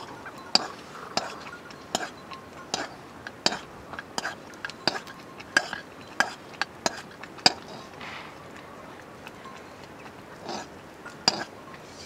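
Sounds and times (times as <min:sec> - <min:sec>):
ladle clinking against pot: 0:00.0 - 0:08.6, 0:09.2 - 0:11.6.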